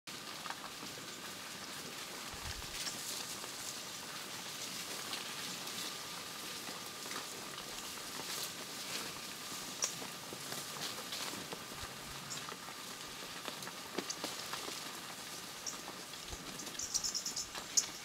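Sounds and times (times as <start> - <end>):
hoofsteps on gravelly road: 0.1 - 18.0
steady hiss: 0.7 - 18.0.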